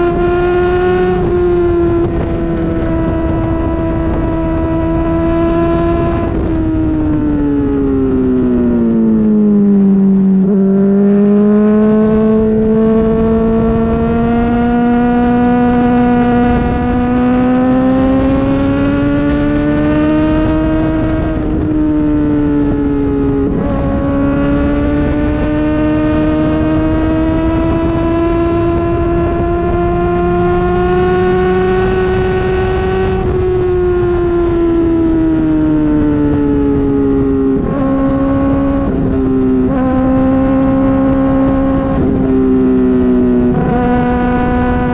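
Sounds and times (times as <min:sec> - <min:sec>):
motorcycle engine revving high: 0:00.0 - 0:44.9.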